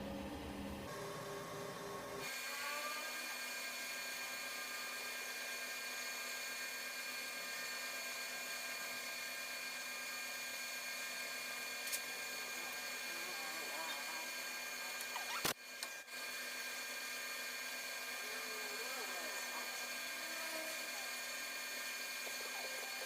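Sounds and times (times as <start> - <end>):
machine running with whines: 0.0 - 23.0.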